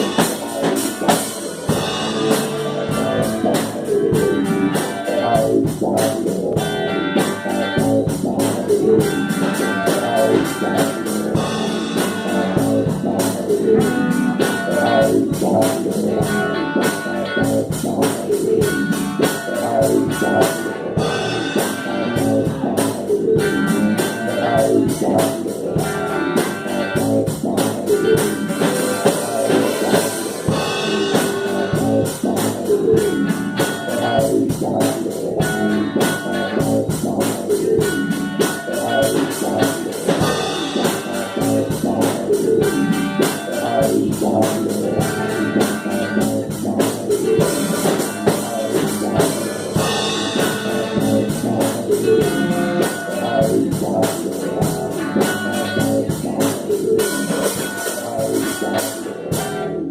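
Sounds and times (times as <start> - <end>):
drum kit beat: 0.0 - 59.9
electric guitars: 0.0 - 59.9.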